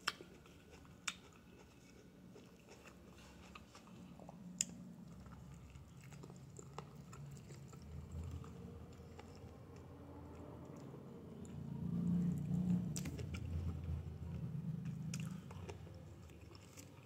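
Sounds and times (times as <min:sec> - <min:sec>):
chewing and mouth sounds: 0:00.0 - 0:17.0.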